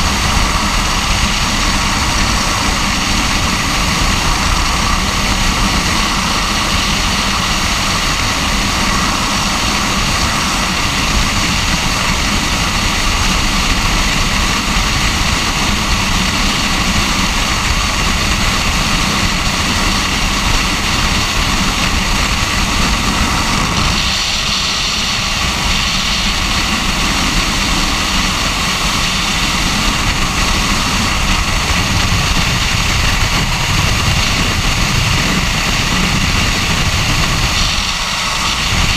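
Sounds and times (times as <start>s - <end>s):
freefall wind buffeting microphone: 0.0s - 38.9s.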